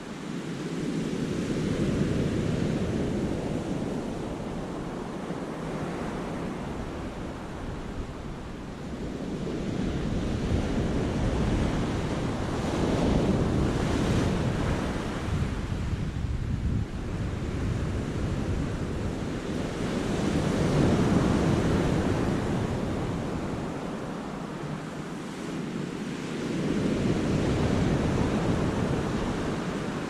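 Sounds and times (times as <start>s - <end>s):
wind buffeting microphone: 1.1s - 25.7s, 26.3s - 30.0s.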